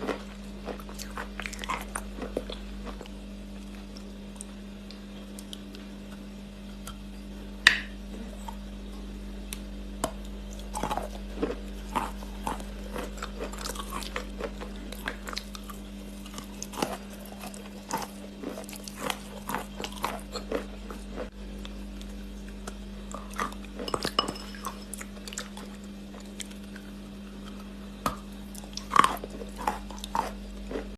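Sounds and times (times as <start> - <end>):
crunchy clay chewing: 0.0 - 7.1, 8.1 - 30.9
steady low hum: 0.0 - 30.9.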